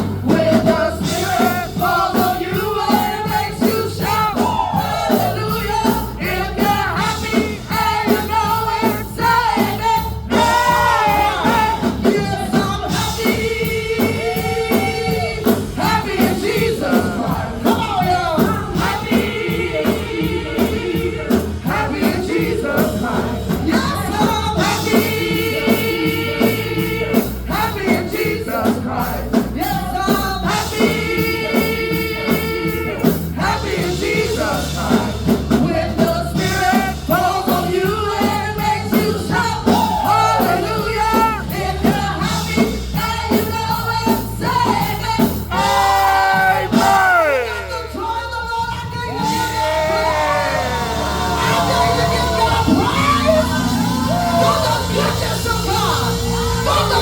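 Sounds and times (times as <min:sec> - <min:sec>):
gospel singing: 0:00.0 - 0:57.0
steady drum beat: 0:00.0 - 0:57.0.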